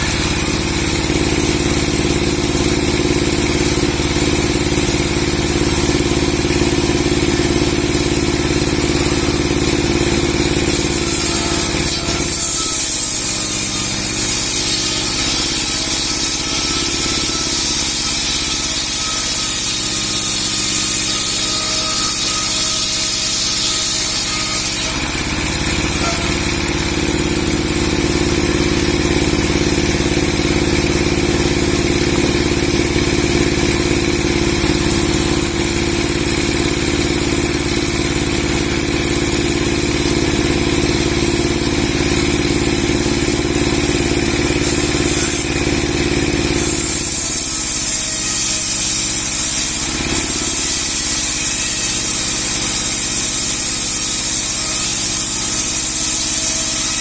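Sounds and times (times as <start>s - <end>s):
high saw whine: 0.0s - 57.0s
log saw engine running: 0.0s - 57.0s.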